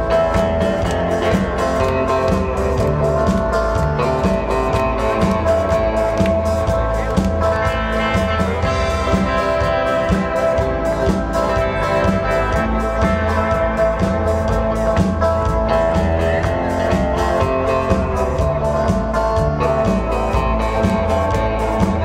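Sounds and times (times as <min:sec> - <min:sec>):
bass guitar: 0:00.0 - 0:22.0
drum kit beat: 0:00.0 - 0:22.0
electric lead guitar: 0:00.0 - 0:22.0.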